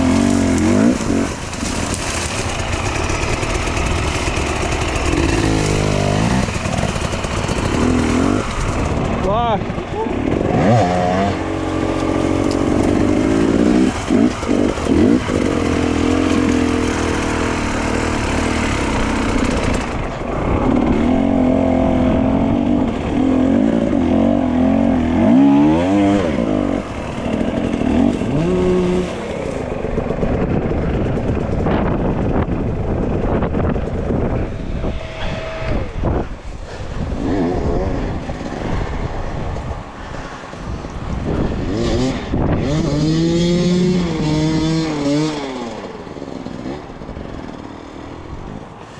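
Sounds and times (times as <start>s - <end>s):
dirt bike engine revving: 0.0s - 39.4s, 41.3s - 48.9s.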